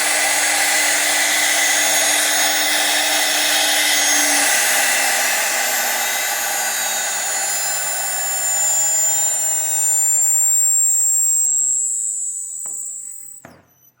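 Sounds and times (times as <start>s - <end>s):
router spindle high-pitched whine: 0.0s - 14.0s.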